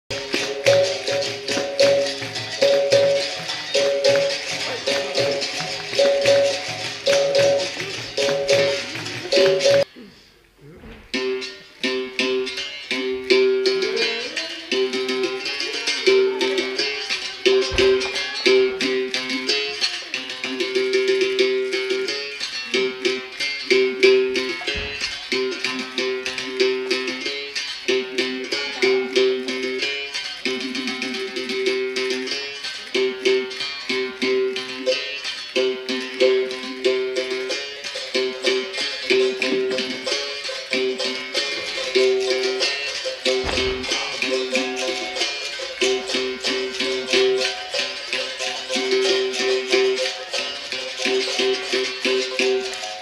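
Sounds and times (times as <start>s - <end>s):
berimbau string struck rhythmically: 0.1s - 9.9s, 11.1s - 53.0s
rattle shaking: 0.1s - 9.9s, 12.5s - 53.0s.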